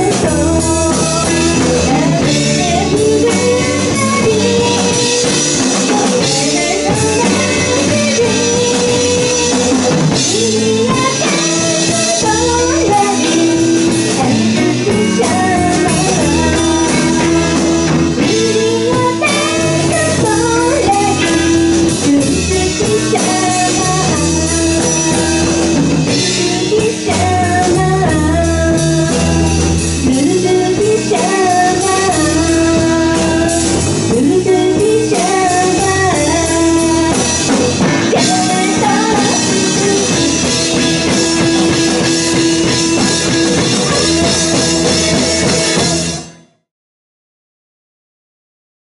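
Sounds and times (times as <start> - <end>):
woman singing: 0.0 - 46.3
drum kit: 0.0 - 46.6
electric guitars: 0.0 - 46.6.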